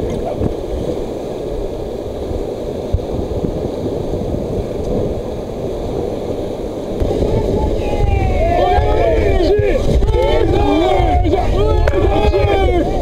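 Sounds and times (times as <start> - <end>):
whitewater rushing against raft: 0.0 - 13.0
wind buffeting microphone: 0.0 - 13.0.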